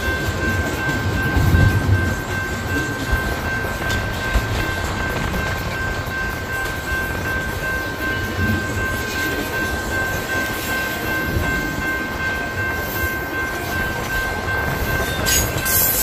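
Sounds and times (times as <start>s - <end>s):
train cars rumbling on rails: 0.0s - 16.0s.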